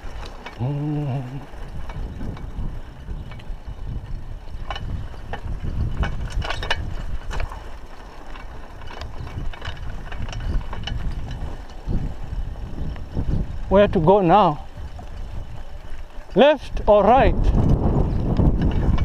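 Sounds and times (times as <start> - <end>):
bike chain and frame clatter: 0.0 - 19.0
wind: 0.0 - 19.0.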